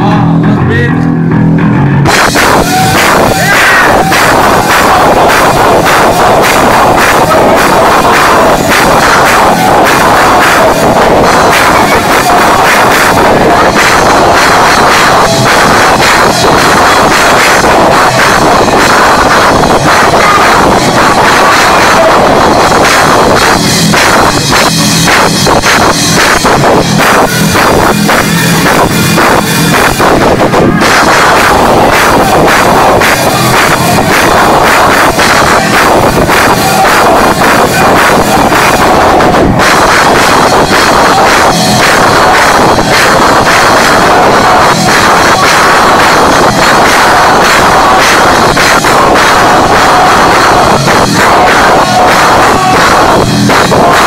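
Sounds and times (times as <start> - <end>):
drums: 0.0 - 54.0
live band playing distorted music: 0.0 - 54.0.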